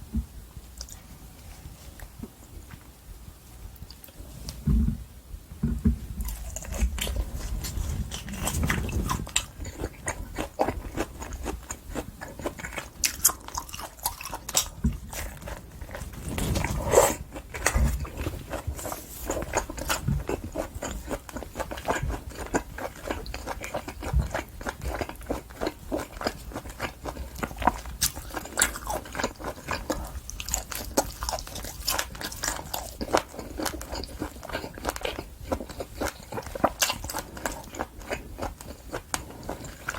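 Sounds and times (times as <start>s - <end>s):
person chewing wetly: 6.2s - 39.9s.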